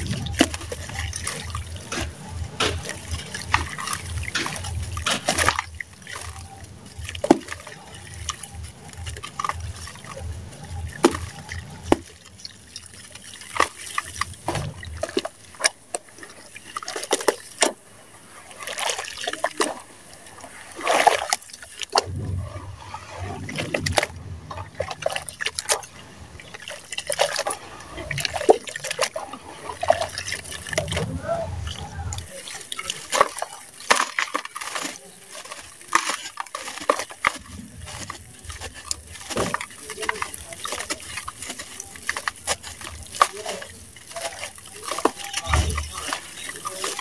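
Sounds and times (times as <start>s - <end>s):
hands squeezing wet sand: 0.0s - 47.0s
water splashing and sloshing: 0.0s - 47.0s.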